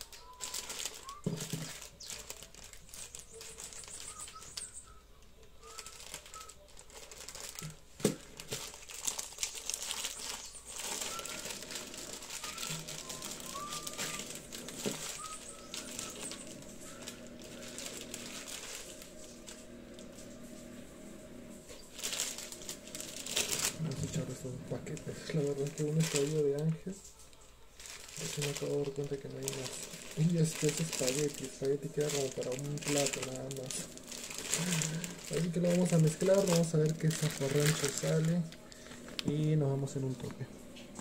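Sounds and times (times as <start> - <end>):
plastic packets crinkling: 0.0 - 41.0.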